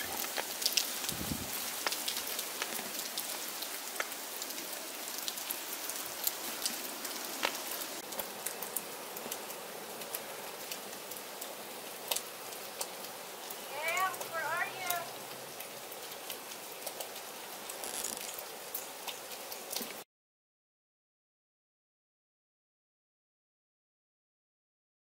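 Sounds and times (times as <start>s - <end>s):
light rain pattering: 0.0s - 20.1s.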